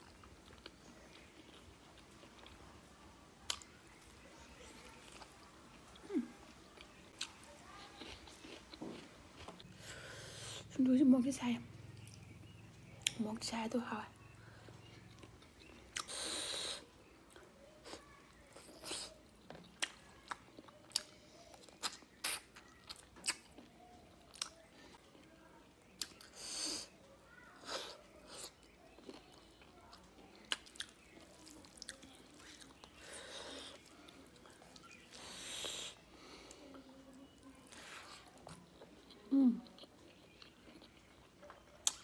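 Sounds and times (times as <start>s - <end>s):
close chewing: 0.0s - 10.8s, 11.7s - 42.0s.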